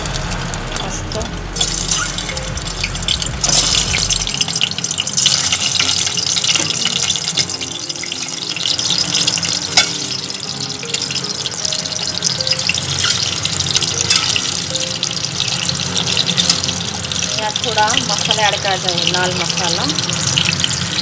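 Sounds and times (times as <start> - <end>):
oil sizzling and crackling: 0.0 - 21.0.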